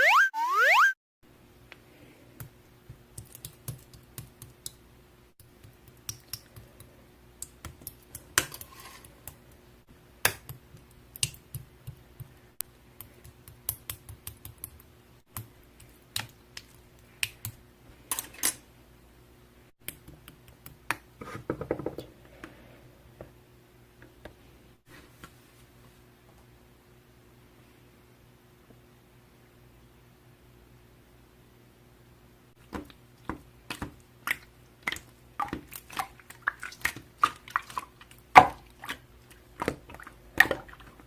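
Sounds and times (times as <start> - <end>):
faint steady hum: 1.3 - 41.0.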